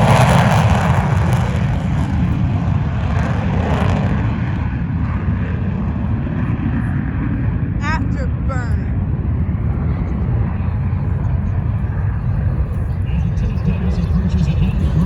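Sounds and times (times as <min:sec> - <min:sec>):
jet engine rumbling: 0:00.0 - 0:15.0.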